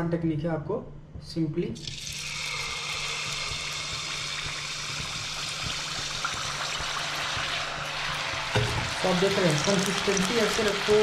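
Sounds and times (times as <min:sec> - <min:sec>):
batter sizzling in hot oil: 0:01.8 - 0:11.0.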